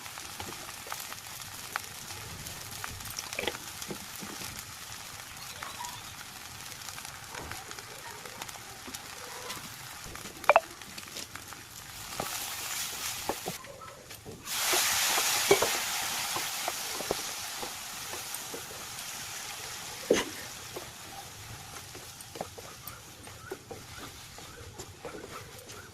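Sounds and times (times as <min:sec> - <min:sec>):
food sizzling in a pan: 0:00.0 - 0:13.6, 0:14.2 - 0:25.9.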